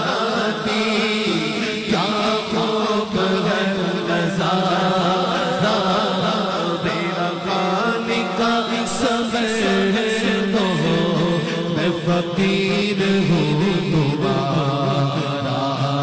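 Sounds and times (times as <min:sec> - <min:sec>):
man singing ornamented melody: 0:00.0 - 0:16.0
vocal drone: 0:00.0 - 0:16.0.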